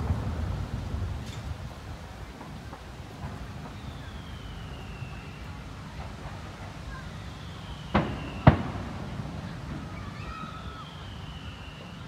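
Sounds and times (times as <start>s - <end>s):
firework bangs: 0.0s - 11.8s.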